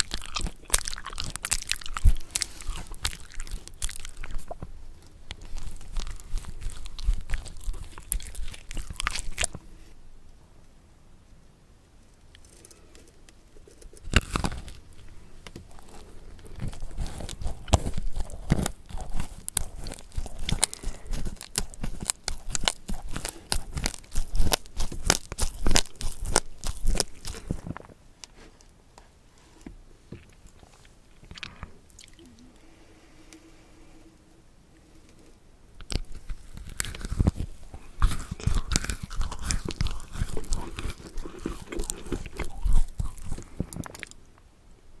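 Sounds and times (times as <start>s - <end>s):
crunching and chewing crisp food: 0.0s - 10.0s, 12.3s - 28.4s, 30.2s - 32.6s, 35.8s - 44.5s.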